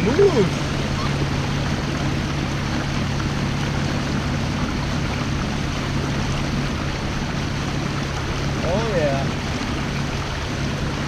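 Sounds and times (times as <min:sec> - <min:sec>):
water splashing along hull: 0:00.0 - 0:11.0.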